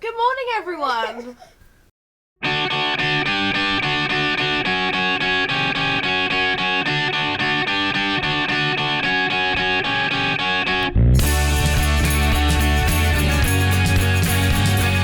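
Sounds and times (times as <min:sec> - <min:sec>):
plucked guitar music: 0:02.4 - 0:15.0.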